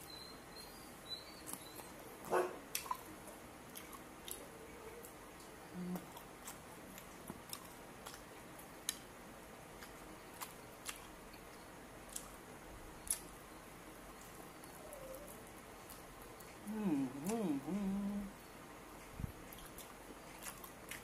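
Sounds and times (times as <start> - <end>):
person chewing meat: 1.4 - 12.4, 13.0 - 13.5, 14.1 - 17.4, 18.9 - 21.0.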